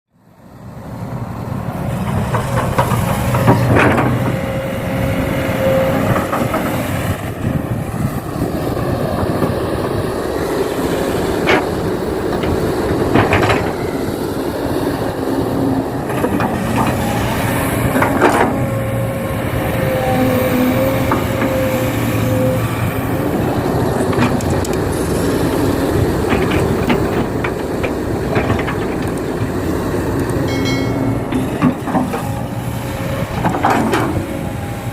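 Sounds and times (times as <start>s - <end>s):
model excavator running: 0.3s - 34.9s.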